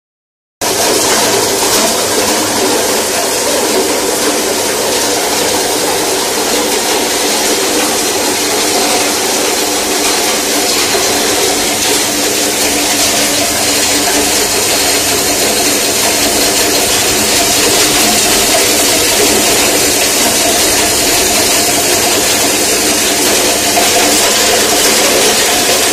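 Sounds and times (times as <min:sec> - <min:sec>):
cutting machine humming: 0:00.6 - 0:25.9
loud dense hiss: 0:00.6 - 0:25.9.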